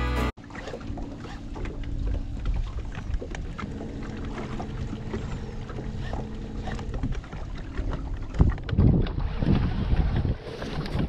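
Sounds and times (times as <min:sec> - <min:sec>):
water lapping against boat: 0:00.3 - 0:11.0
wind buffeting microphone: 0:01.7 - 0:11.0.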